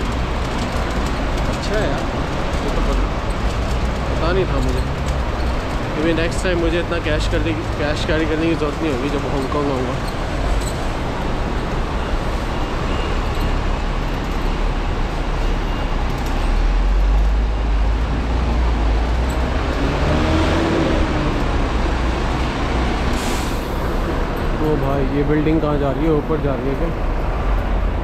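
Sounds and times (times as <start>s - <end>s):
traffic road noise: 0.0s - 28.0s.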